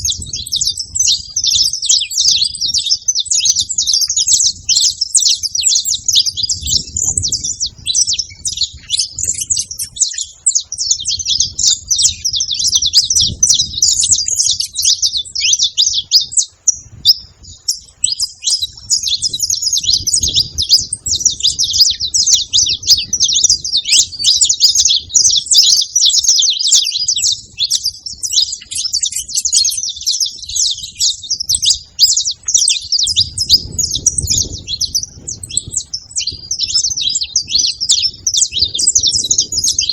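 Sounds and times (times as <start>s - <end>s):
finch chirping and singing: 0.0s - 39.9s.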